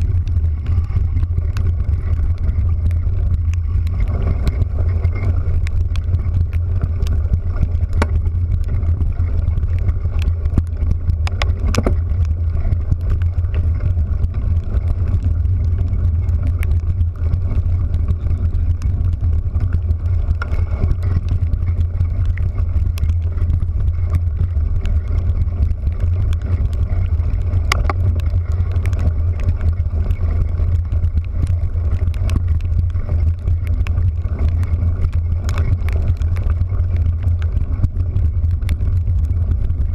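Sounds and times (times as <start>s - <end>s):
sharp ticks: 0.0s - 39.9s
vehicle engine drone: 0.0s - 39.9s.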